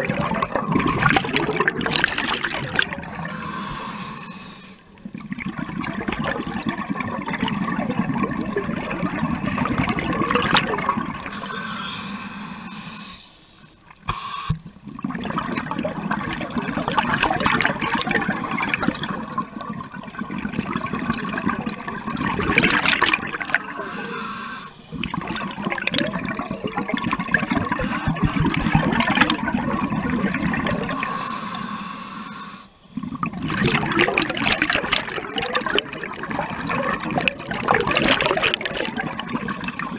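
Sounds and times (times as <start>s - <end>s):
underwater bubbles rushing and gurgling: 0.0s - 39.9s.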